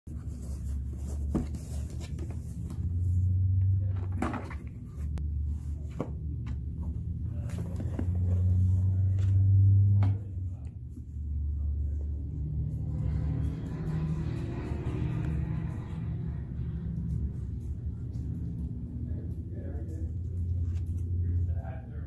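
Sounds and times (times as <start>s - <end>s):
loud low hum: 2.2s - 22.0s.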